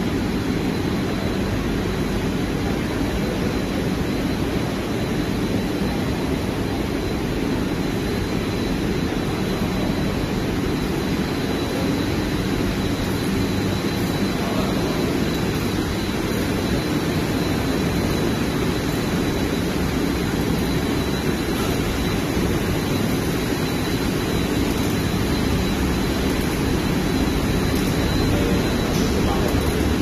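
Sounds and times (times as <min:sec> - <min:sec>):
faint high whine: 0:00.0 - 0:30.0
grinding machines humming: 0:00.1 - 0:30.0.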